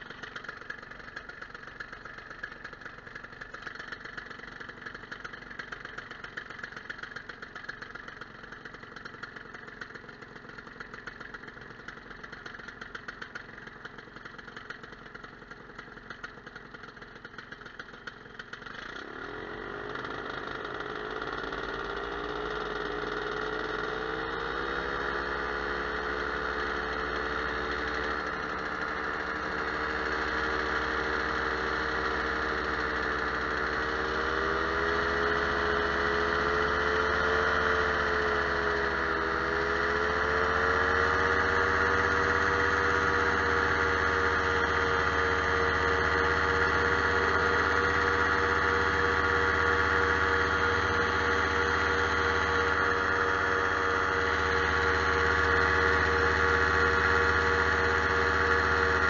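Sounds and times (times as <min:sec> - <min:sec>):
paraglider engine and propeller: 0:00.0 - 0:59.0.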